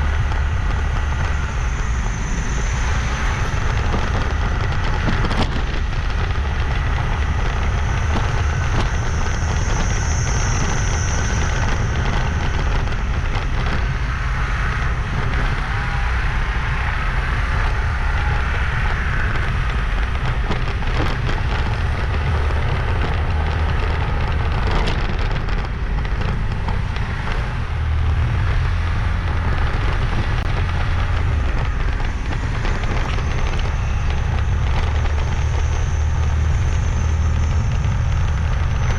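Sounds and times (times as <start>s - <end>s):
motorbike engine: 0.0s - 38.9s
wind rumble on microphone: 0.0s - 38.9s.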